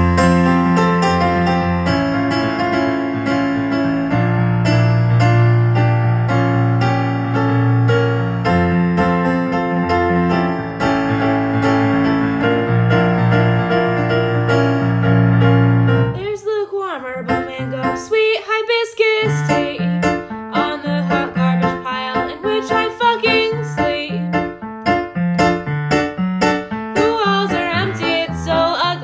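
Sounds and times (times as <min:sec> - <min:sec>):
instrumental piano: 0:00.0 - 0:29.0.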